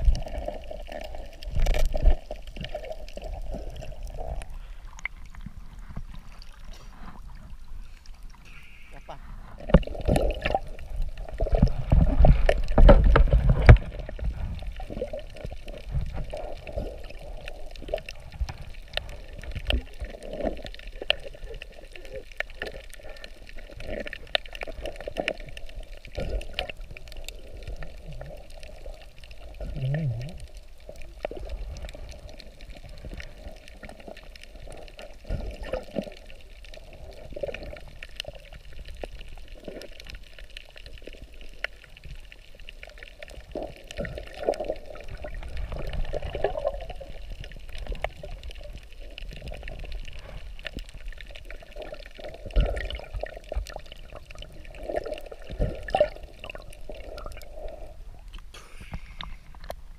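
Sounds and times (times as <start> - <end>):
underwater sloshing and swirling: 0.0 - 59.9.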